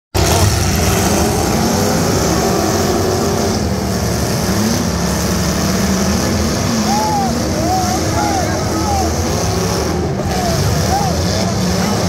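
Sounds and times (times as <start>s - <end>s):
car engines revving: 0.1s - 12.0s.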